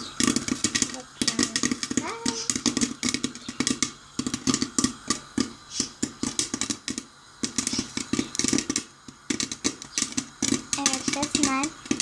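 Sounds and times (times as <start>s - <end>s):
popcorn popping in a covered pot: 0.0s - 12.0s.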